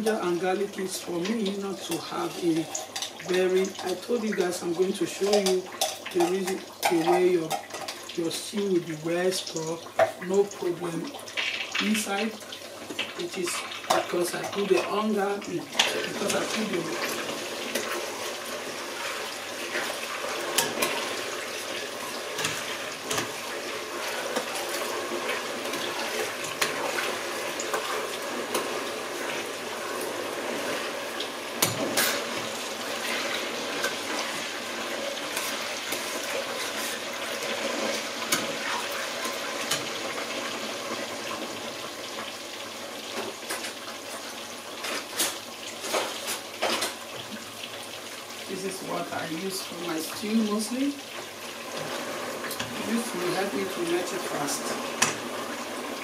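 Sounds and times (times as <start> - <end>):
stew sizzling and bubbling in a pot: 0.0 - 56.0.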